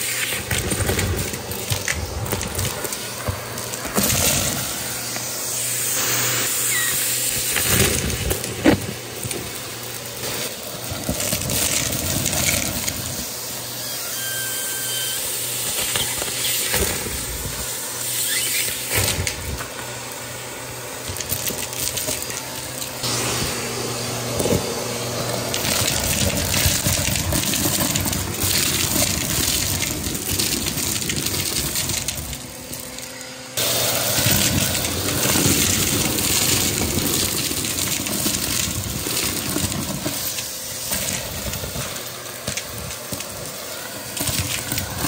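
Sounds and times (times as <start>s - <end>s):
small hard pieces clattering: 0.0s - 5.3s, 6.4s - 20.0s, 20.9s - 23.1s, 24.3s - 45.0s
handheld vacuum motor humming: 0.0s - 45.0s.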